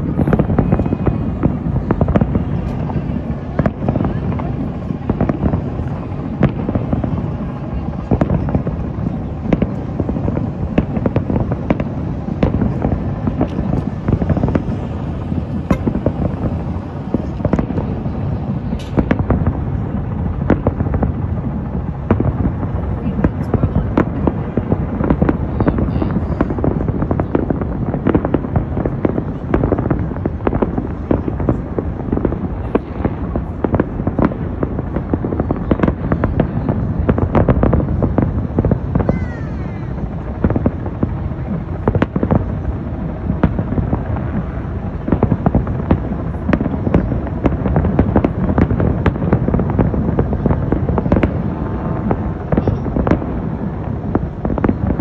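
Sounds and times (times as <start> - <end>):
fireworks booms and crackling: 0.0 - 55.0.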